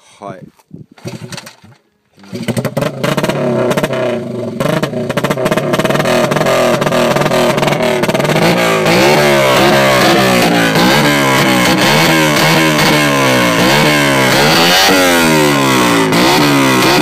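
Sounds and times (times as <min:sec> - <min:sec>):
minibike engine revving: 0:01.0 - 0:17.0.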